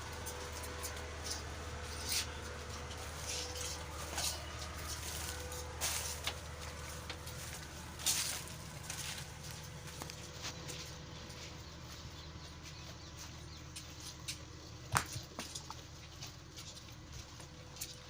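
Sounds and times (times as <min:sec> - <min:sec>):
goats rustling and tugging grass: 0:00.0 - 0:18.0
steady low hum: 0:00.0 - 0:18.0.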